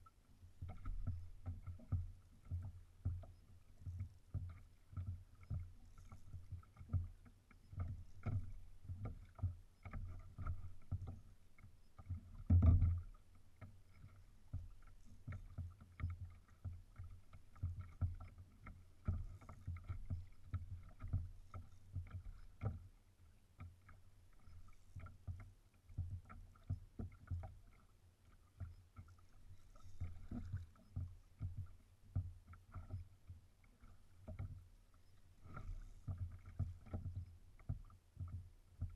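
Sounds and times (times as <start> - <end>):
small waves slapping kayak hull: 0.0 - 38.9.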